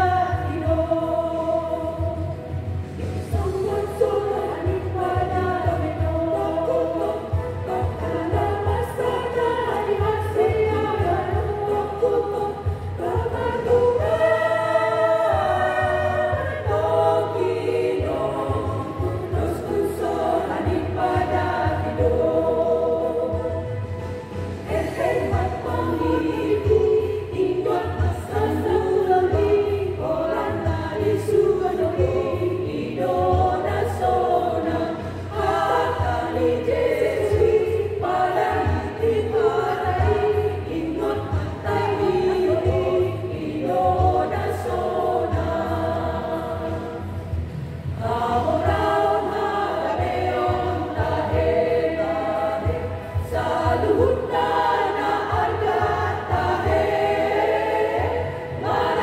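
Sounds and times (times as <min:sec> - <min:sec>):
women's choir singing a hymn: 0:00.0 - 0:59.0.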